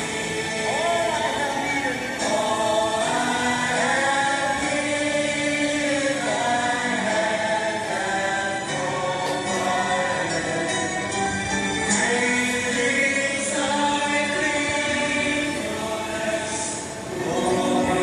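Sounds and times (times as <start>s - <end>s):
voices singing worship song: 0.0s - 18.0s.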